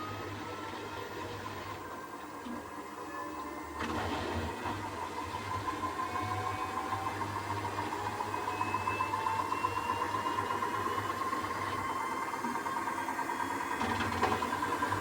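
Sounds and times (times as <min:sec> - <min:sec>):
washing machine spinning up: 0:00.0 - 0:15.0.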